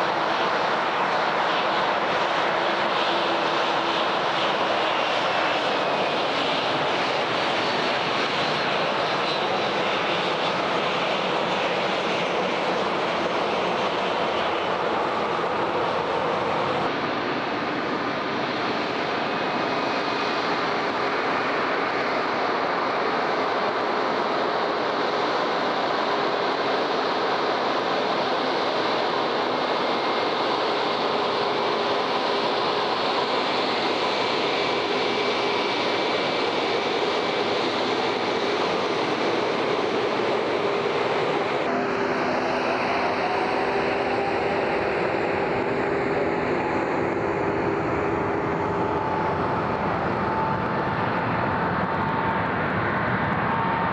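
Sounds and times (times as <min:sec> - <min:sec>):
airliner jet whine rising: 0:00.0 - 0:53.9
jet engines rushing and whining: 0:00.0 - 0:53.9.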